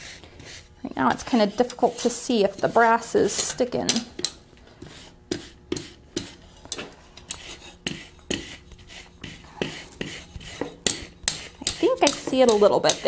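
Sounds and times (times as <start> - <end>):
wire brush scraping hot steel: 0.0 - 13.0
brush tapping on steel: 1.6 - 13.0.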